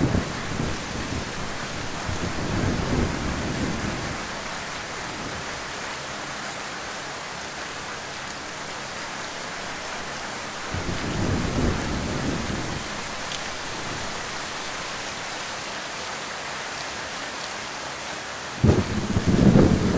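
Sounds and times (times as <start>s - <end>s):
heavy rain: 0.0s - 19.9s.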